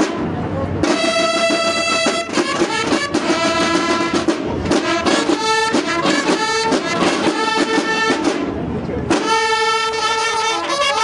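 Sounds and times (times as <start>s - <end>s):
held bugle notes: 0.8s - 8.4s, 9.1s - 11.0s
snare drumming: 0.8s - 11.0s.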